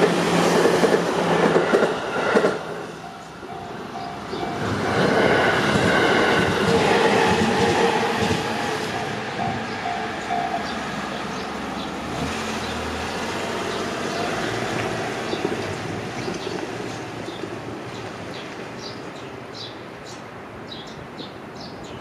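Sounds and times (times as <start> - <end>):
crossing barriers humming: 0.0 - 18.8
train rumbling: 0.0 - 19.4.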